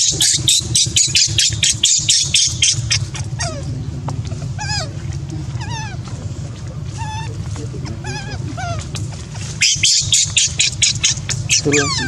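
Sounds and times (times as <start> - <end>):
monkey crying: 0.0 - 3.8, 4.4 - 12.0
fast rhythmic rasping: 0.0 - 12.0.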